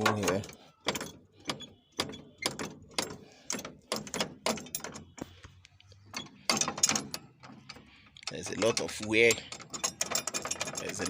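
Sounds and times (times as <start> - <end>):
metal clicks and knocks: 0.0 - 11.0.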